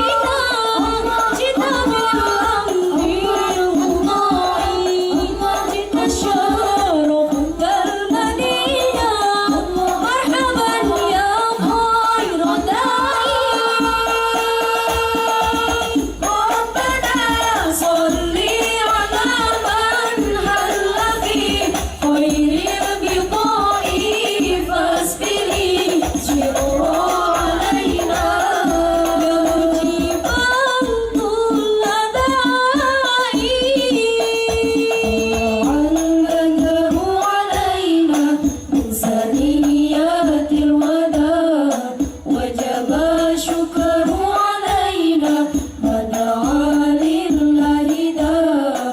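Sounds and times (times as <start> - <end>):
frame drums: 0.0 - 48.9.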